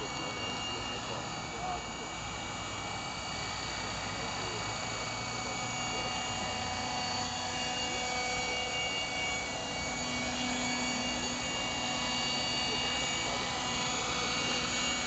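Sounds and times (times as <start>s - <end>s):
rc helicopter motor whine: 0.0s - 15.0s
rotor noise: 0.0s - 15.0s.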